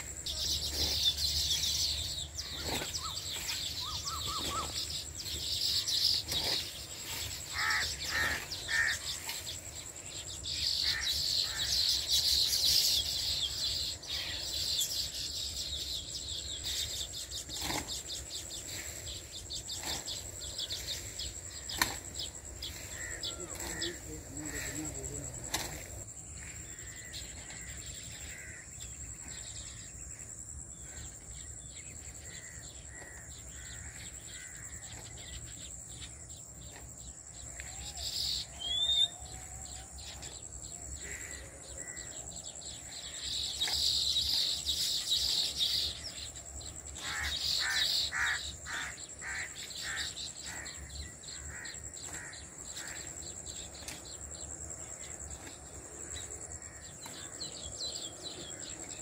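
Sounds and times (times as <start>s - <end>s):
birds chirping and calling: 0.0s - 59.0s
high insect buzz: 0.0s - 59.0s.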